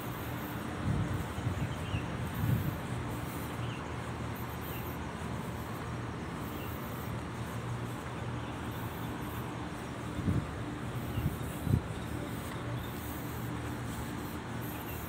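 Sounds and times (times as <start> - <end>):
low hum of traffic: 0.0 - 15.0.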